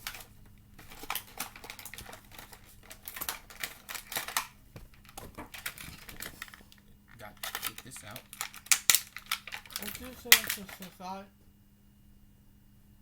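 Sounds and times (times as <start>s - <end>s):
plastic packaging clicking and crinkling: 0.0s - 11.1s.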